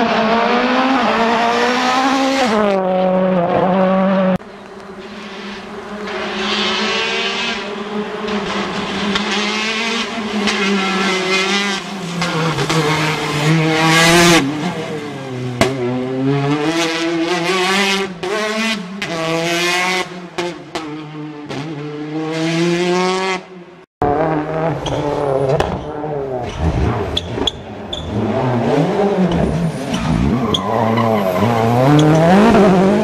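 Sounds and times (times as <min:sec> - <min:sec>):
rally car engine at full throttle: 0:00.0 - 0:33.0.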